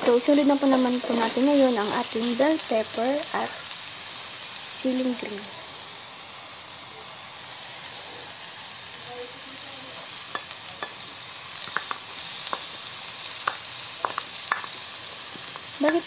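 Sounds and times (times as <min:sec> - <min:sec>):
onions sizzling in oil: 0:00.0 - 0:16.0
vegetables crackling in hot pan: 0:00.0 - 0:16.0.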